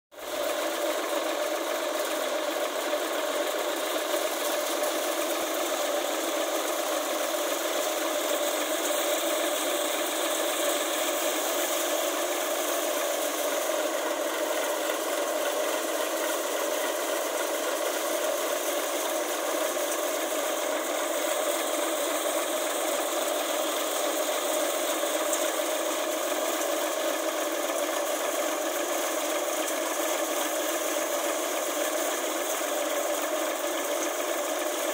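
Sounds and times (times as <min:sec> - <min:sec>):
tractor engine driving thresher: 0:00.2 - 0:34.9.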